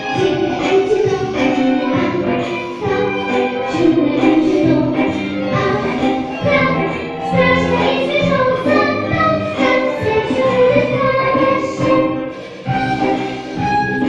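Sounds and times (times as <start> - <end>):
girl singing into microphone: 0.0 - 13.4
instrumental accompaniment: 0.0 - 14.0.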